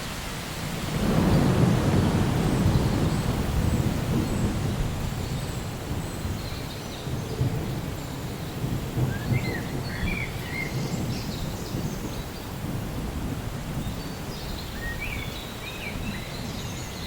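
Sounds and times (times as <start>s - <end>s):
rain: 0.0s - 17.0s
low rumble of thunder: 0.6s - 17.0s.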